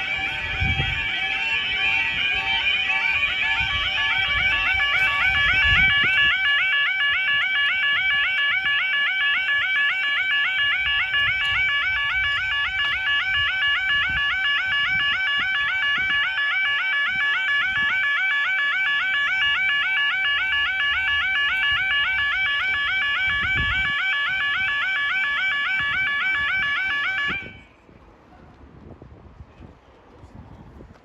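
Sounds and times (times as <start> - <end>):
level crossing alarm warbling: 0.0 - 27.7.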